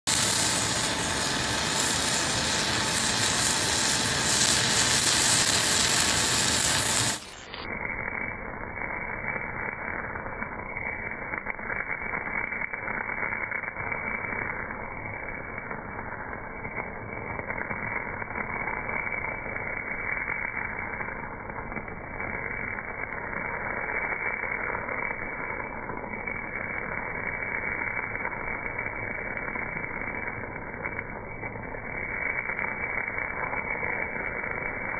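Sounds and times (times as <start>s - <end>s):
welding arc crackling hiss: 0.0s - 34.9s.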